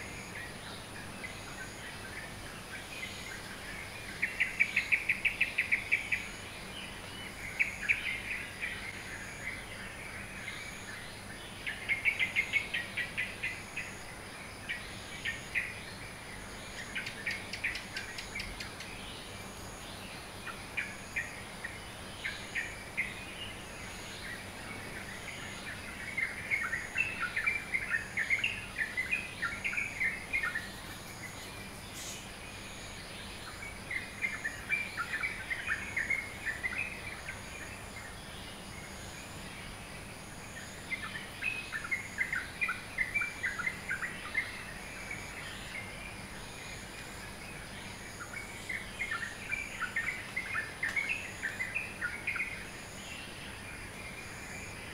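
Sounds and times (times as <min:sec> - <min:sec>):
birds chirping: 0:00.0 - 0:54.9
steady high hiss with pulses: 0:00.0 - 0:54.9.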